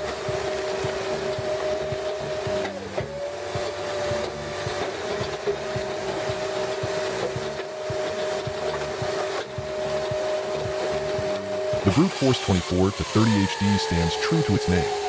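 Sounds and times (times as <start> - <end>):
wood-processing machine whine: 0.0 - 15.0.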